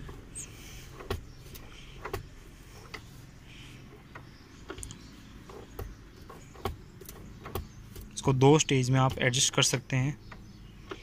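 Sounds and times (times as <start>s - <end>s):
armrest hinge ratchet clicks: 0.0s - 11.0s.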